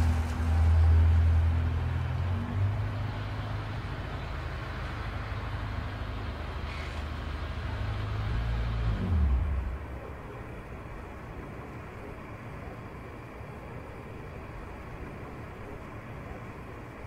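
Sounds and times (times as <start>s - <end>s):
car engine rumbling: 0.0s - 16.8s.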